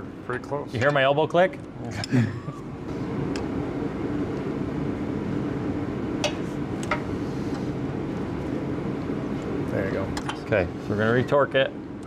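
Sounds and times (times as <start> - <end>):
low hum: 1.6 - 12.0.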